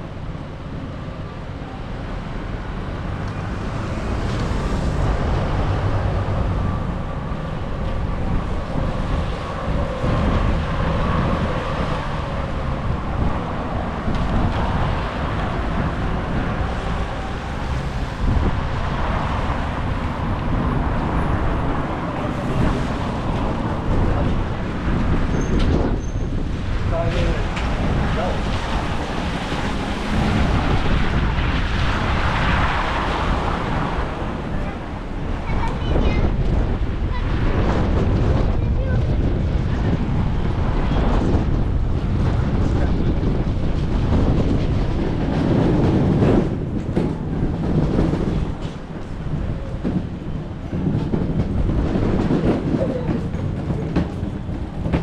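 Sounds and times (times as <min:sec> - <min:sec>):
storm wind buffeting microphone: 0:00.0 - 0:55.0.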